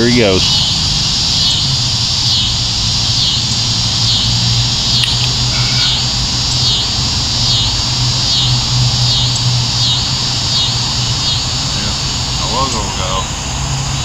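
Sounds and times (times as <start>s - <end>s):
insects buzzing in pulses: 0.0s - 14.0s.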